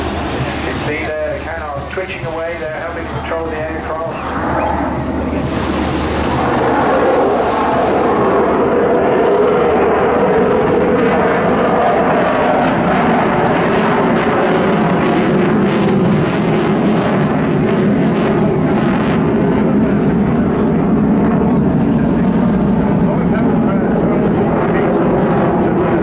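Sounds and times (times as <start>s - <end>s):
distant jet engine noise: 0.0s - 26.0s.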